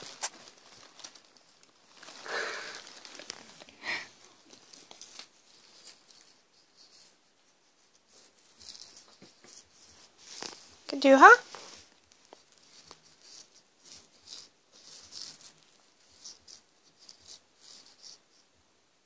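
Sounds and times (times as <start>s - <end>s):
faint rustling and handling: 0.0s - 19.0s
soft hiss: 0.0s - 19.0s.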